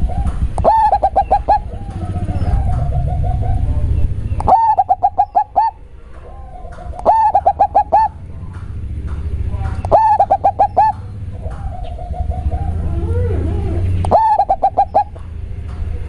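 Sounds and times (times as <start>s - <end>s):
dove cooing: 0.0s - 8.6s, 9.7s - 16.0s.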